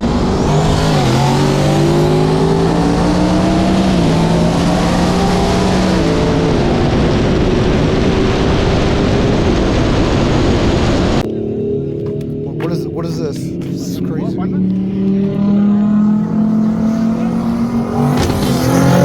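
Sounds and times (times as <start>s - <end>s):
turbocharged cars accelerating: 0.0s - 19.0s.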